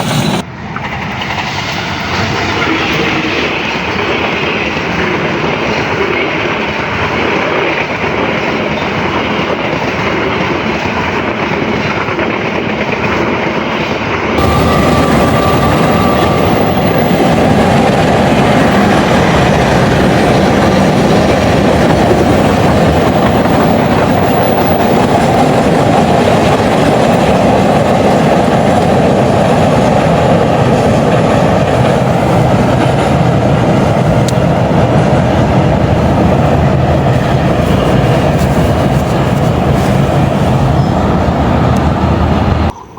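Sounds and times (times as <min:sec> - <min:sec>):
train carriages rolling past: 0:00.0 - 0:42.9.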